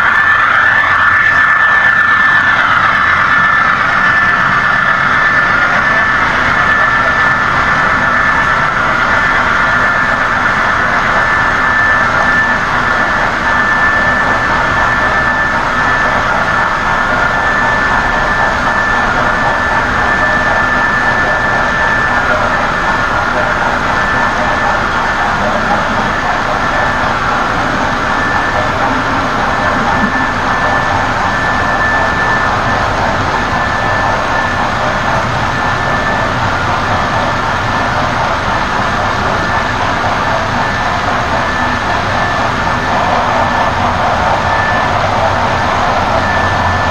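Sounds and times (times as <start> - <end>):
thin high whine: 0.0 - 46.9.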